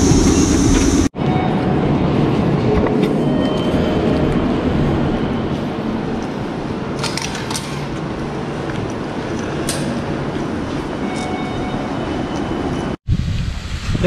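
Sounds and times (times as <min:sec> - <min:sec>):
train station low rumble and hiss: 0:00.0 - 0:14.0.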